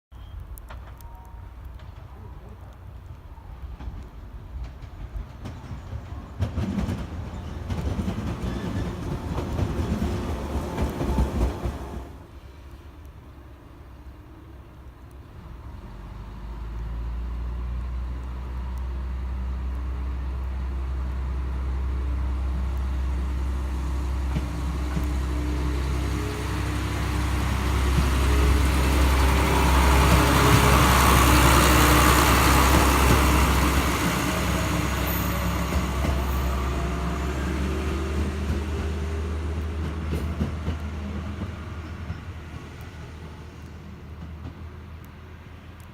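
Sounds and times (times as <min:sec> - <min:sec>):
train passing: 0:00.2 - 0:45.9.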